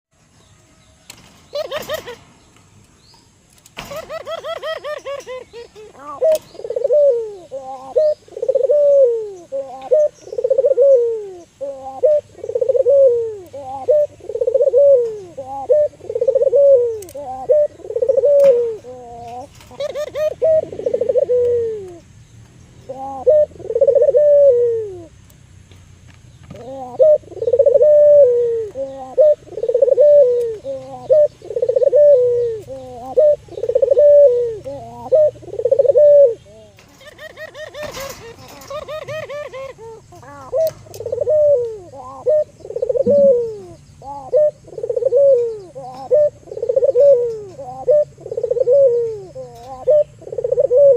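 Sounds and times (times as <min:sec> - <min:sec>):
dove cooing: 0:01.5 - 0:02.2, 0:03.8 - 0:22.1, 0:22.8 - 0:25.1, 0:26.5 - 0:50.9.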